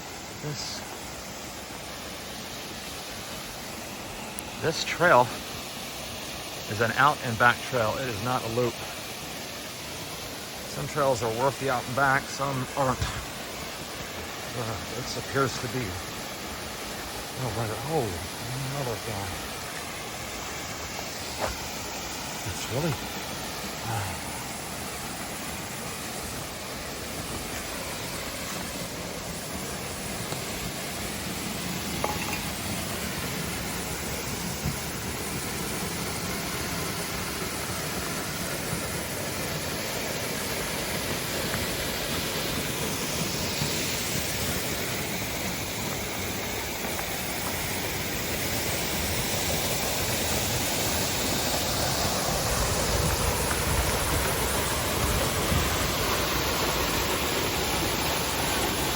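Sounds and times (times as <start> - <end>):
rushing creek water: 0.0 - 58.9.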